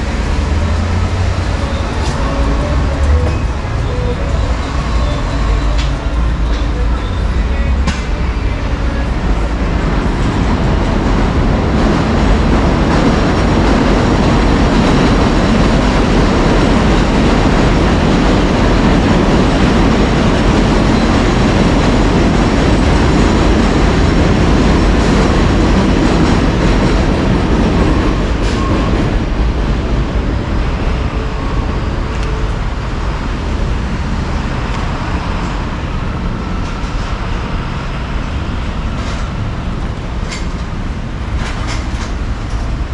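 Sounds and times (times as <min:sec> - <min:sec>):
subway train rumble and wheel clatter: 0:00.0 - 0:42.9.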